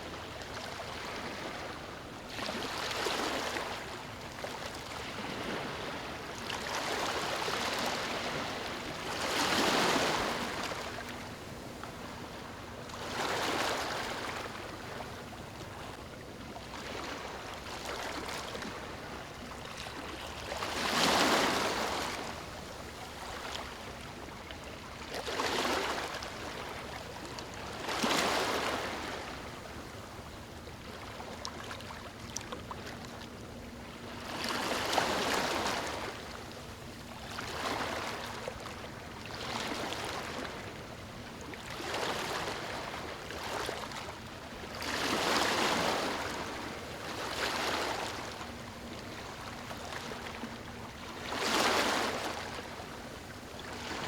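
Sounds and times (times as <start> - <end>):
small waves lapping on beach: 0.0 - 54.0.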